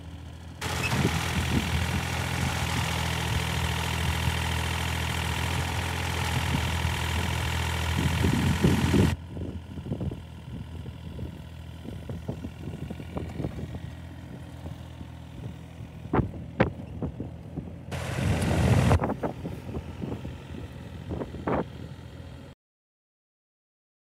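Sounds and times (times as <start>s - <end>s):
ride-on mower engine throbbing: 0.0s - 22.5s.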